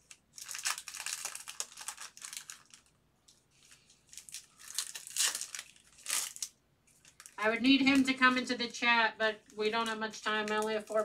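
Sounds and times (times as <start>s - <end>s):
foil wrapper crinkling and tearing: 0.0s - 8.2s, 9.4s - 11.0s.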